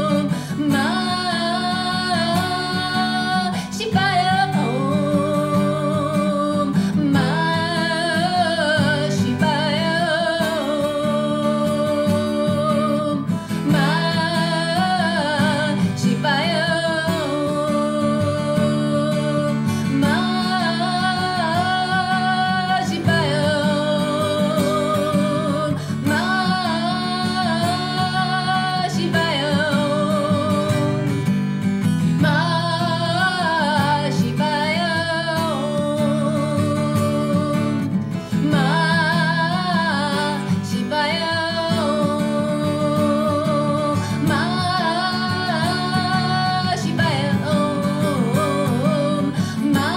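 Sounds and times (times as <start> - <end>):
acoustic guitar: 0.0 - 49.9
woman singing with vibrato: 0.0 - 49.9.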